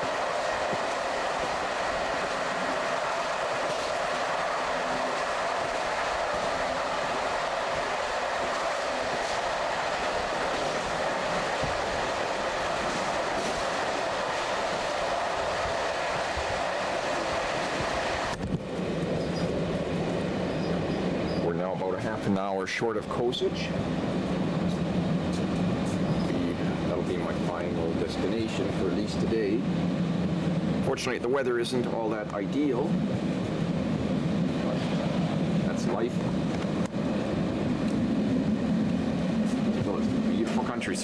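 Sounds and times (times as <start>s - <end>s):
train rumbling and rattling: 0.0s - 41.0s.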